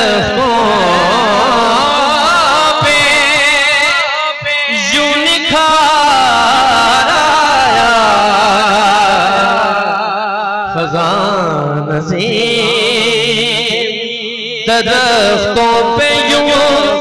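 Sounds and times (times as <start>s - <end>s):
man singing melismatically: 0.0s - 17.0s.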